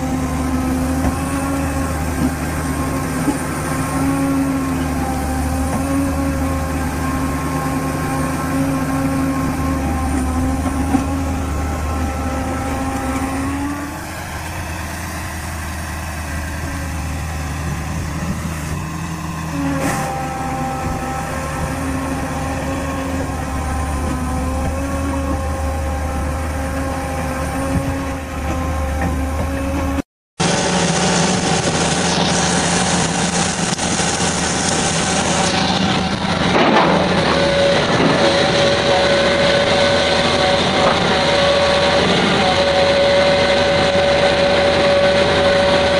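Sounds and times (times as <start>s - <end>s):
different engine running: 0.0s - 45.9s
heavy machine engine running: 0.0s - 45.9s.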